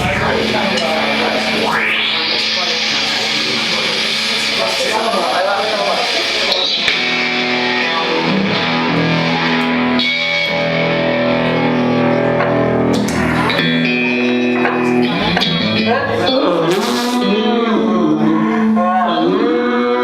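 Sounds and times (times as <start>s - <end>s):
rock band playing live: 0.0s - 19.4s
electric guitar chords: 0.0s - 20.0s.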